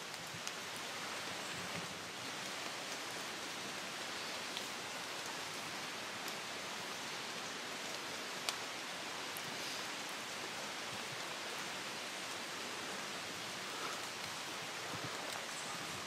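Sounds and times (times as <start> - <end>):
rain falling through woodland: 0.0 - 16.0
raindrops ticking close by: 0.0 - 16.0.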